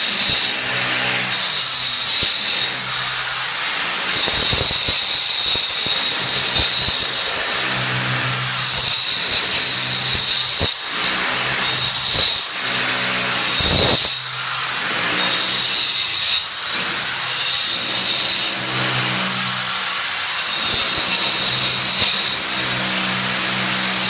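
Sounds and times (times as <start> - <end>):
angle grinder cutting into wall: 0.0 - 24.0.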